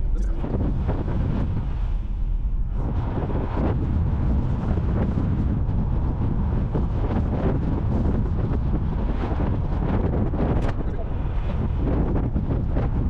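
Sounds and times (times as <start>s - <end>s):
wind blowing over microphone: 0.0s - 13.0s.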